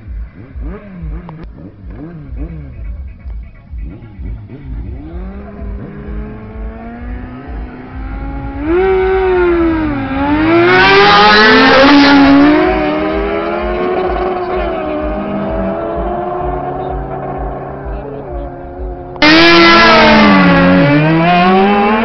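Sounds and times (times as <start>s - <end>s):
motorcycles revving: 0.0s - 22.0s.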